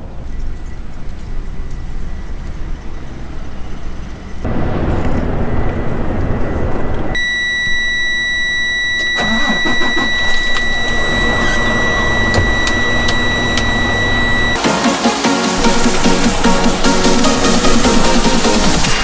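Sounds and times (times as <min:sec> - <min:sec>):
heavy truck engine running: 0:00.0 - 0:07.2, 0:09.0 - 0:19.0.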